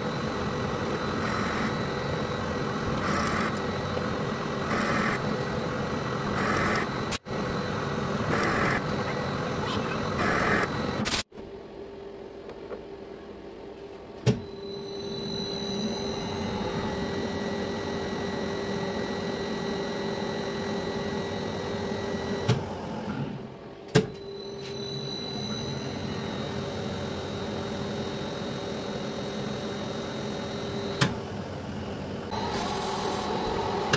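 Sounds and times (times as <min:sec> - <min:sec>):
lathe motor hum with whine: 0:00.0 - 0:11.0, 0:14.4 - 0:33.9.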